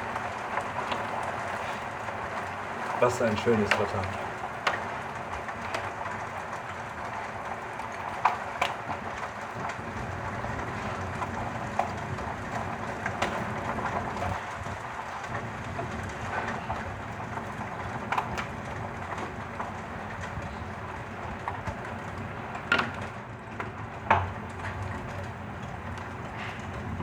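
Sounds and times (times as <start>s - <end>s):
hailstones clicking: 0.0s - 27.0s
heavy rain pouring: 0.0s - 27.0s.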